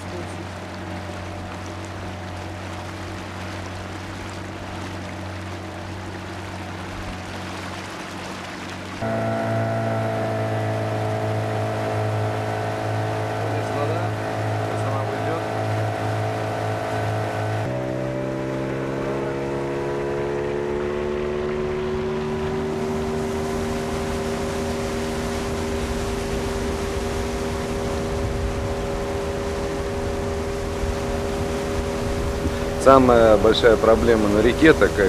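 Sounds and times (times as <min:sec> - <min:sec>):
outboard motor drone: 0:00.0 - 0:35.0
water rushing: 0:00.0 - 0:35.0.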